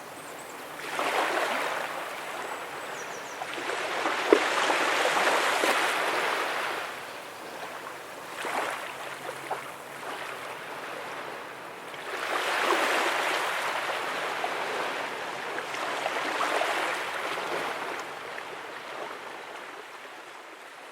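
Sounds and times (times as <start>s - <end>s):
small waves breaking on beach: 0.0s - 20.9s.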